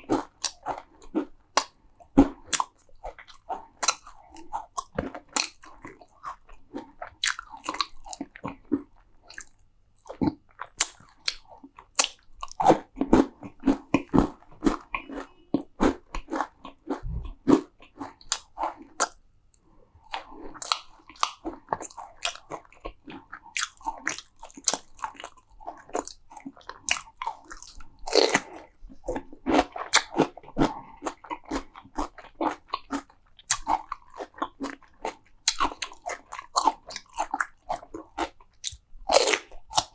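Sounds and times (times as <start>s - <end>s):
crunchy food chewing: 0.0s - 19.2s, 20.0s - 39.9s.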